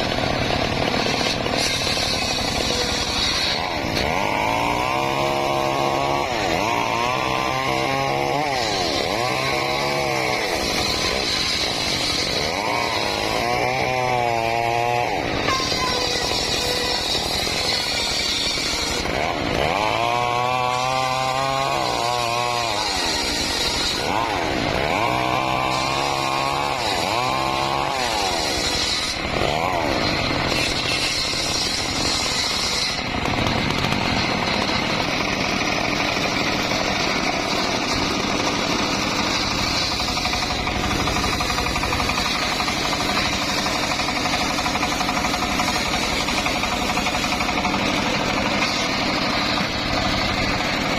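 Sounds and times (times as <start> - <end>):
engine-powered saw running: 0.0 - 50.9.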